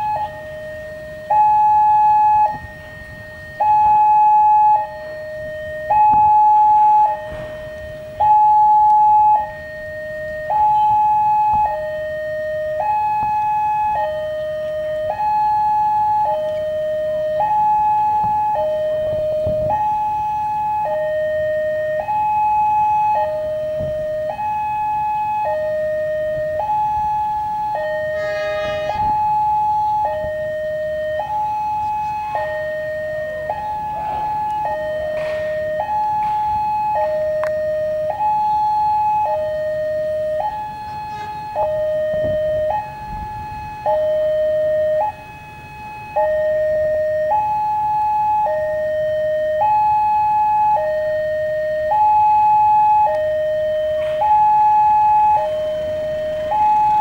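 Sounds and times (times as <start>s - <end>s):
two-tone level crossing siren: 0.0s - 57.0s.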